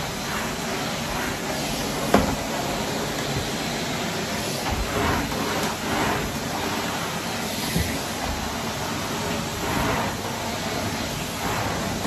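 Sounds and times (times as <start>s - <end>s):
vacuum cleaner on carpet: 0.0s - 12.0s.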